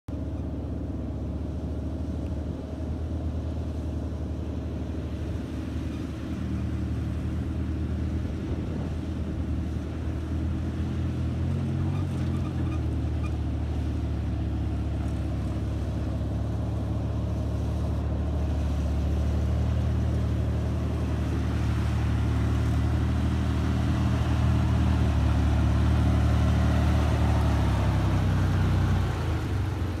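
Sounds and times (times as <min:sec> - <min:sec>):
engine pulling under load: 0:00.1 - 0:30.0.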